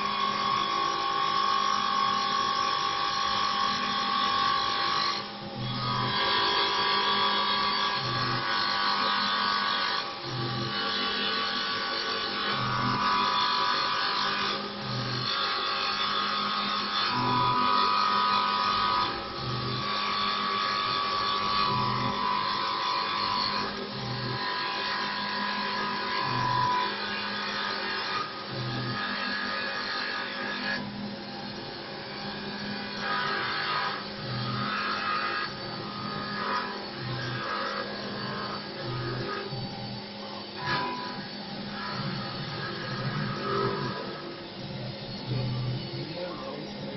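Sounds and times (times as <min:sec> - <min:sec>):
lathe motor whine: 0:00.0 - 0:46.9.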